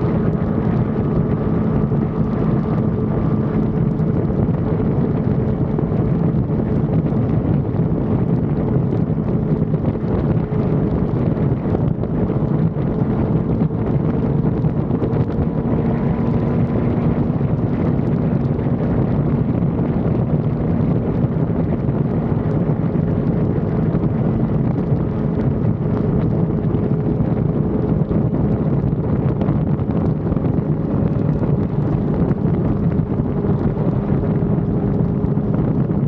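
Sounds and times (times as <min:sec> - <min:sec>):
motorcycle engine drone: 0:00.0 - 0:36.0
wind rushing over microphone: 0:00.0 - 0:36.0.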